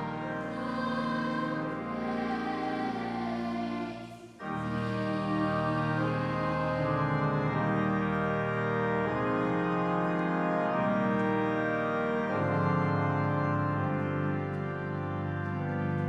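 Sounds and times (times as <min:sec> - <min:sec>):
organ playing held chords: 0:00.0 - 0:16.0.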